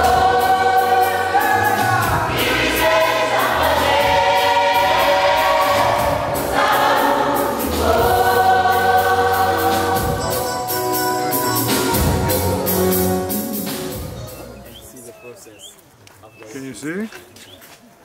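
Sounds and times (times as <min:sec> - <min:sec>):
choir singing in harmony: 0:00.0 - 0:14.4.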